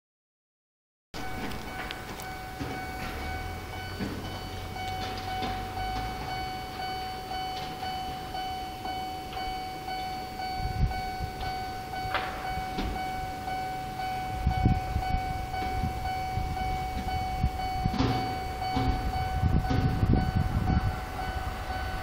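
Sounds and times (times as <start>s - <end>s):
level crossing warning bell: 1.2s - 22.0s
low rumble: 1.2s - 22.0s.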